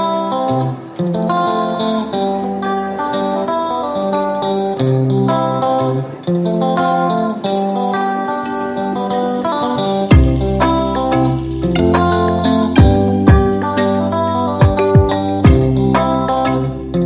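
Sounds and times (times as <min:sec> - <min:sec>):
plucked guitar tune: 0:00.0 - 0:17.0.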